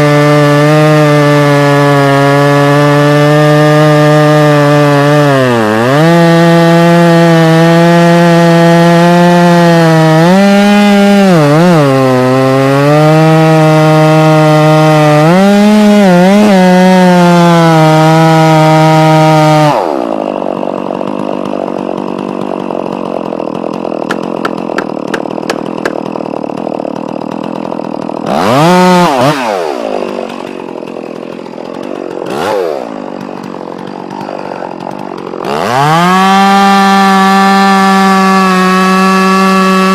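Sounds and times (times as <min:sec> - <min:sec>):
chainsaw cutting wood: 0:00.0 - 0:39.9
chainsaw idling and revving: 0:00.0 - 0:39.9.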